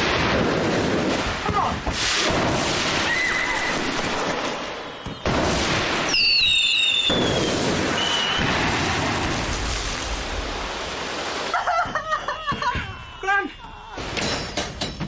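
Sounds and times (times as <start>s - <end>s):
fireworks hissing: 0.0s - 12.6s
fireworks whistling: 0.0s - 12.6s.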